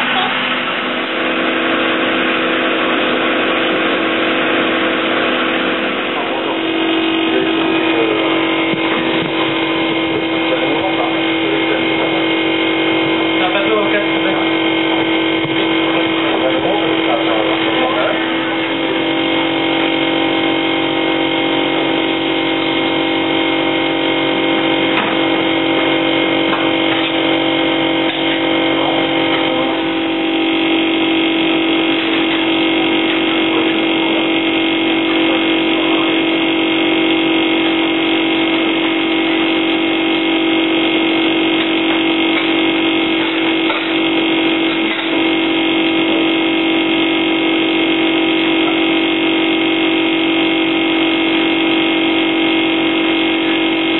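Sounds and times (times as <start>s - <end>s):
kitchen machinery humming: 0.0s - 53.9s.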